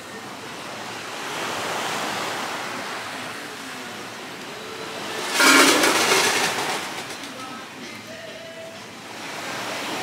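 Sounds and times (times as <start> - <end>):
sea waves washing in: 0.0 - 7.8, 9.0 - 10.0.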